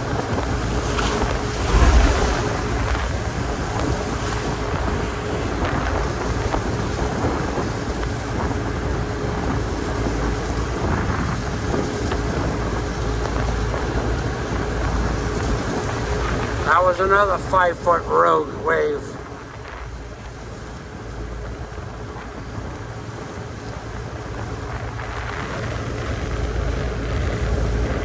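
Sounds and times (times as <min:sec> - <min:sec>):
wind buffeting microphone: 0:00.0 - 0:17.3, 0:19.2 - 0:28.0
sea: 0:00.0 - 0:28.0
ship engine hum: 0:00.0 - 0:28.0.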